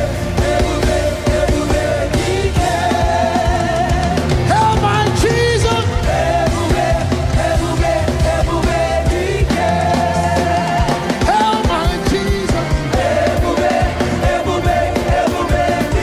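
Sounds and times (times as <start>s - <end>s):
live gospel band music: 0.0s - 16.0s.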